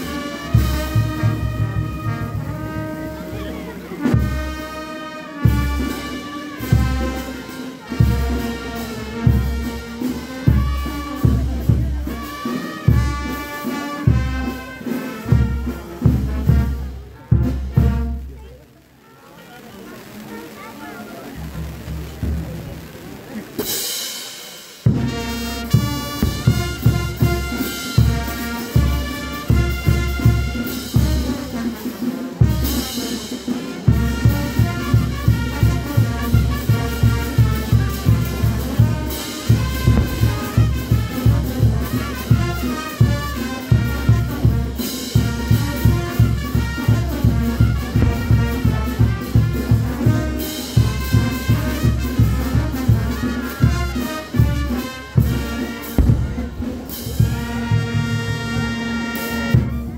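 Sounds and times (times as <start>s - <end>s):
steady drum beat: 0.0s - 18.2s, 23.6s - 59.9s
trumpets and trombones: 0.0s - 59.9s.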